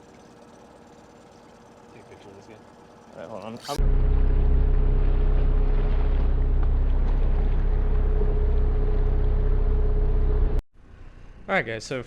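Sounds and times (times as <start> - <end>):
boat motor droning: 0.0 - 10.6
steady hum: 0.0 - 10.6.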